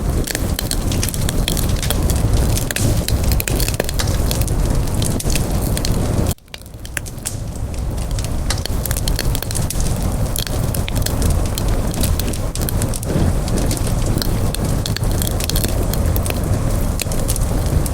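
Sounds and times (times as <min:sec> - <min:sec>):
campfire crackling and popping: 0:00.0 - 0:17.9
low rumble of burning: 0:00.0 - 0:17.9.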